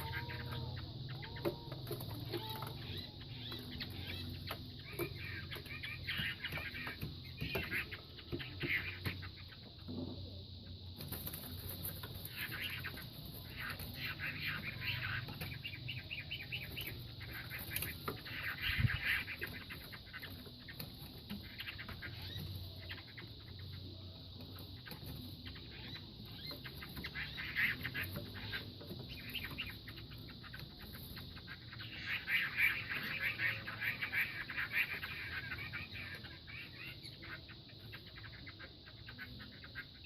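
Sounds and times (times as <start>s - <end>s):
bird noises: 0.0s - 40.0s.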